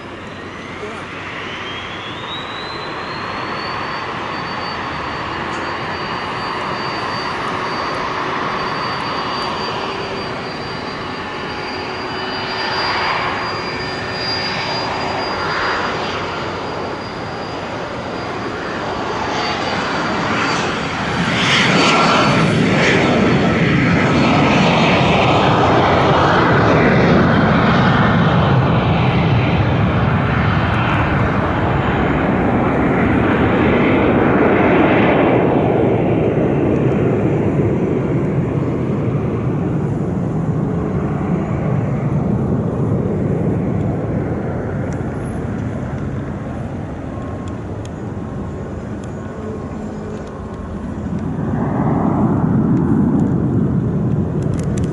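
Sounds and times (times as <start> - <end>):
jet engines at takeoff: 0.0 - 54.9.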